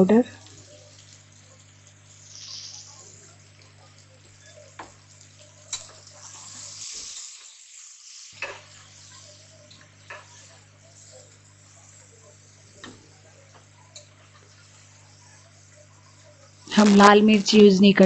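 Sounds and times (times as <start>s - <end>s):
vegetables sizzling: 0.0s - 18.0s.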